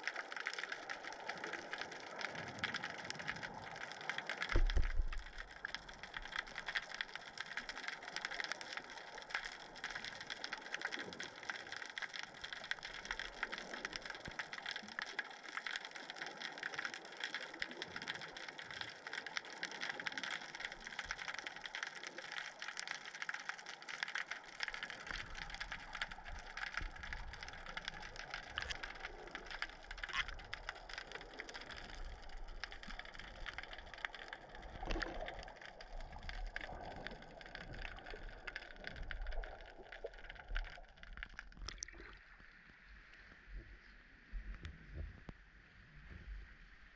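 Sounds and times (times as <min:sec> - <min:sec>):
underwater crackling hiss: 0:00.0 - 0:40.6
low rumble of moving water: 0:00.0 - 0:46.9.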